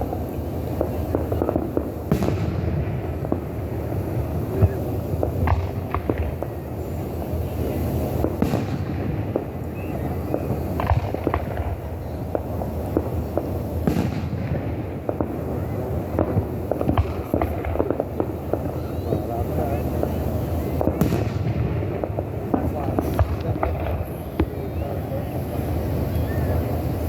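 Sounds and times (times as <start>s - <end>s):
fireworks bangs and crackles: 0.0s - 27.0s
rumble of booms: 0.0s - 27.0s.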